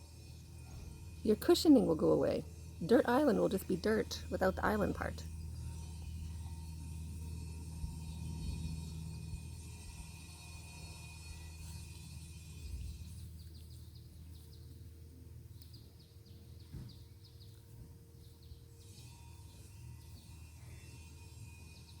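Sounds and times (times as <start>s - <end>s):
steady low rumble: 0.0s - 18.8s
small birds chirping: 0.2s - 22.0s.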